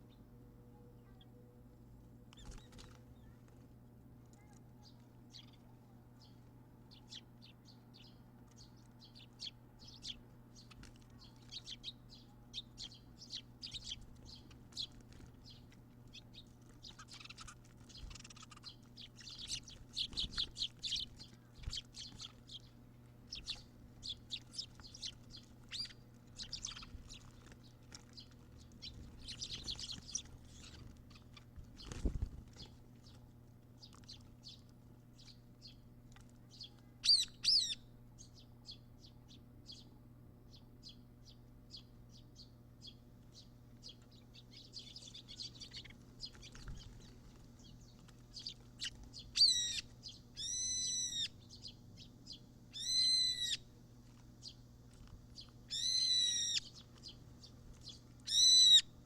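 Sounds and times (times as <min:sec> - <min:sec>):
birds chirping: 0:00.0 - 0:03.6, 0:04.3 - 0:59.0
faint low hum: 0:00.0 - 0:59.0.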